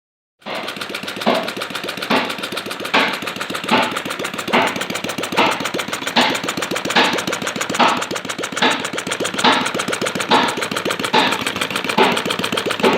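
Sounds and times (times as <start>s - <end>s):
small petrol engine clattering: 0.4s - 12.9s.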